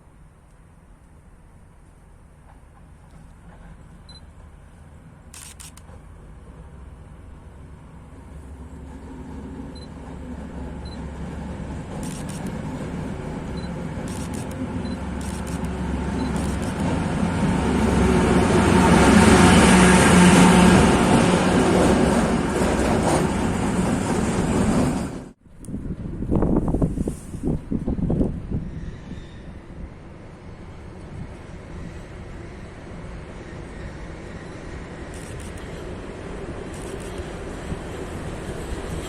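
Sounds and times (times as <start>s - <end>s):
diesel locomotive engine hum: 0.0s - 39.0s.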